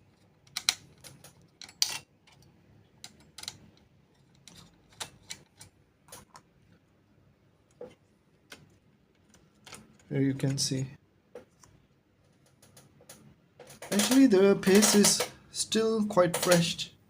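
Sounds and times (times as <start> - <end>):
small parts and tools clicking: 0.0 - 6.5, 7.7 - 10.6, 11.4 - 15.4, 16.2 - 16.8.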